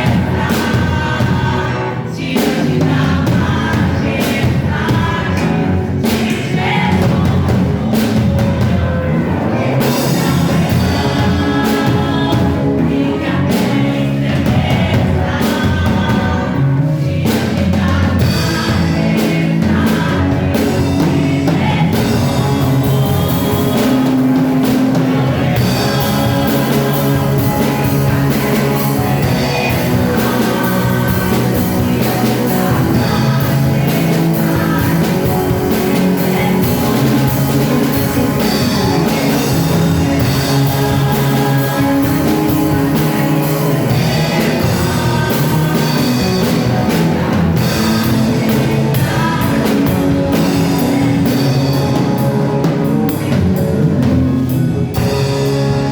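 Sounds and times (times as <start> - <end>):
band playing worship song: 0.0 - 55.9
person singing: 0.0 - 55.9.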